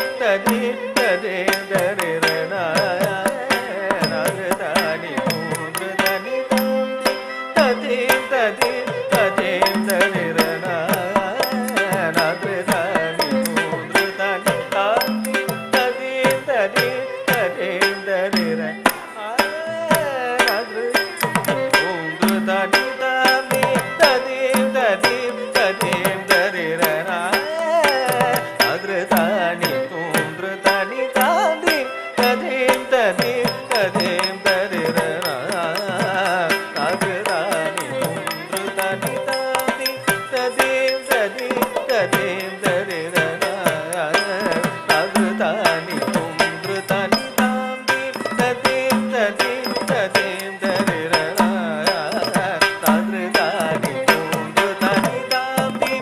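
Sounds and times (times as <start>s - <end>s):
mridangam drum strokes: 0.0s - 56.0s
person singing melody: 0.0s - 56.0s
violin melody: 0.0s - 56.0s.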